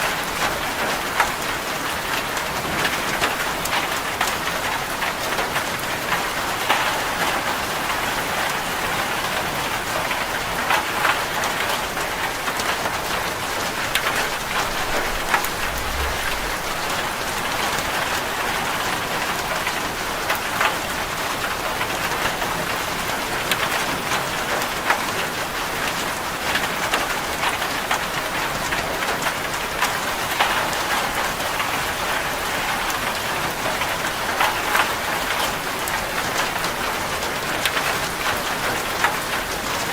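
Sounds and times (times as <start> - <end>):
heavy rain on metal roof: 0.0 - 39.9.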